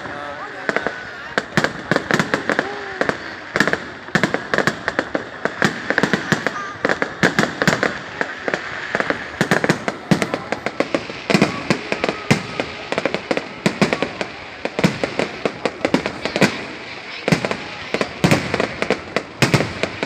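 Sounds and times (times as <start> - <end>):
distant fireworks explosions: 0.0 - 20.0
fireworks bangs: 0.0 - 20.0.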